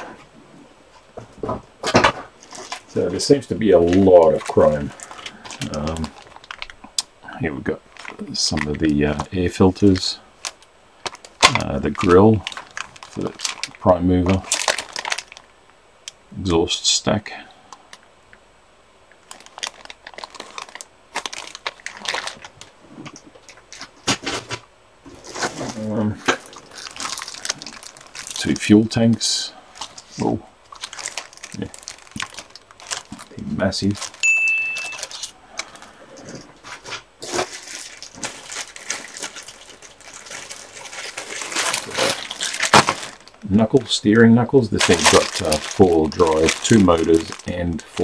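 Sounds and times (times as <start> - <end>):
plastic bag crinkling: 2.3 - 15.6, 19.2 - 48.0.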